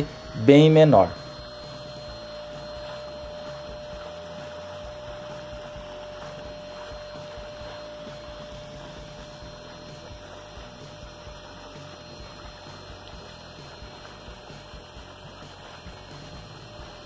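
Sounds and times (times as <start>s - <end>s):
vacuum cleaner motor hum: 0.0s - 17.0s
water bubbling and churning: 1.2s - 17.0s.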